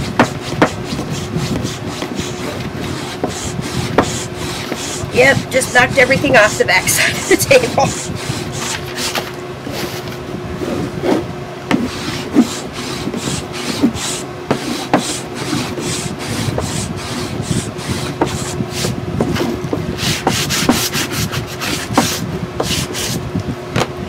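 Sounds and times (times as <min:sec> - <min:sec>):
sandpaper rubbing on wood: 0:00.0 - 0:10.1, 0:11.7 - 0:23.2.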